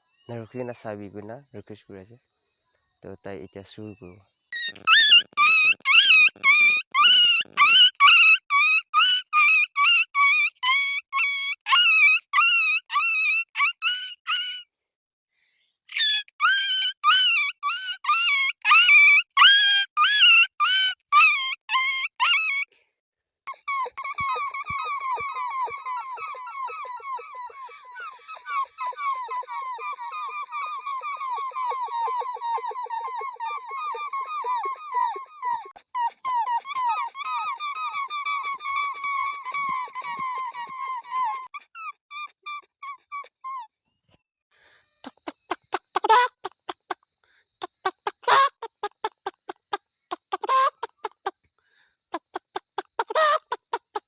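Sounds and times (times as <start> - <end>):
child imitating animal call: 4.6 - 14.6, 15.9 - 22.7, 23.5 - 43.7, 45.1 - 47.0, 47.6 - 51.3, 52.2 - 54.0.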